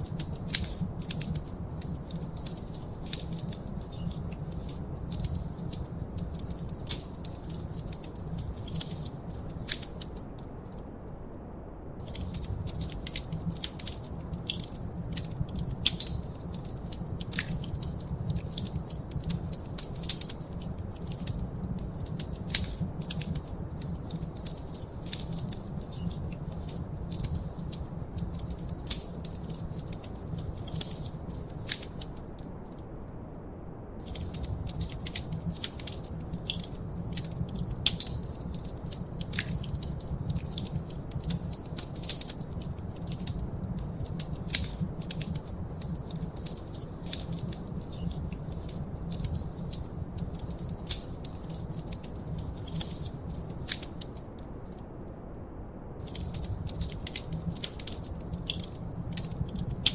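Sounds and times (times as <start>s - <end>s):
wood fire crackling and popping: 0.0s - 10.8s, 12.0s - 32.8s, 34.0s - 54.8s, 56.0s - 59.9s.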